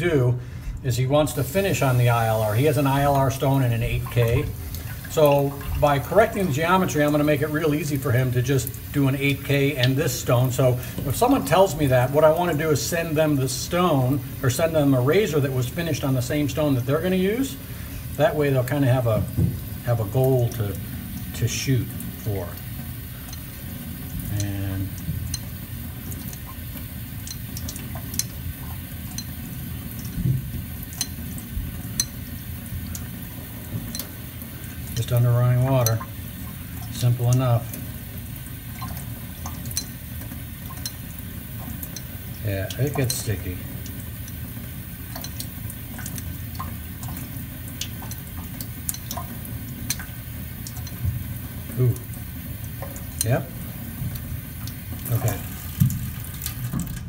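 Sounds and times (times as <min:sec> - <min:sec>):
tap water running into sink: 0:00.0 - 0:57.0.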